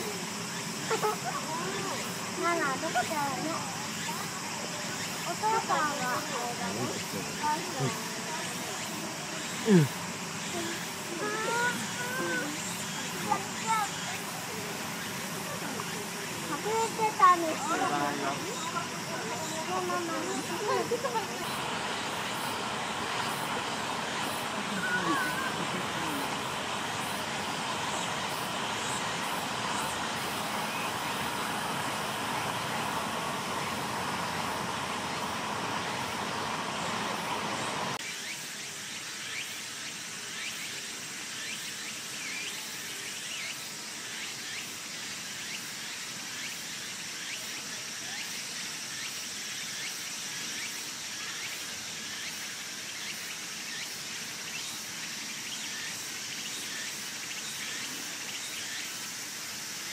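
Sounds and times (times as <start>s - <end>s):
insects chirping: 0.0s - 59.9s
outdoor background noise: 0.0s - 59.9s.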